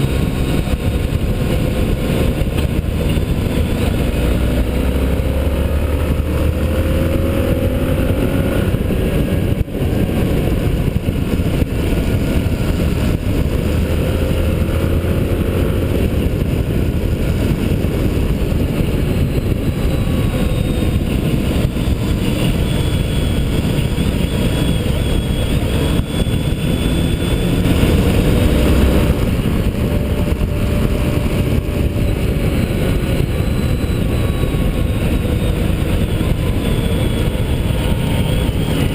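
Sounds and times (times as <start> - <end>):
motorcycle engine racing: 0.0 - 38.9
wind rush on microphone: 0.0 - 38.9.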